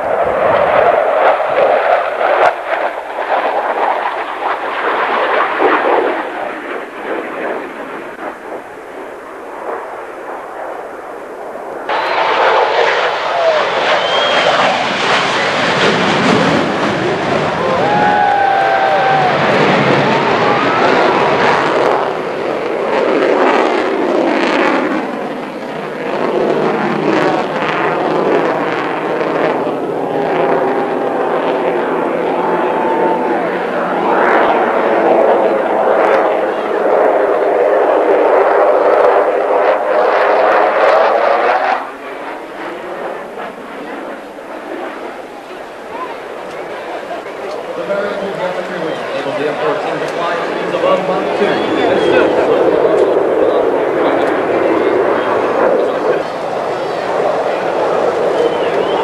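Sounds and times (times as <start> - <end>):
jet engines roaring in flight: 0.0 - 59.0.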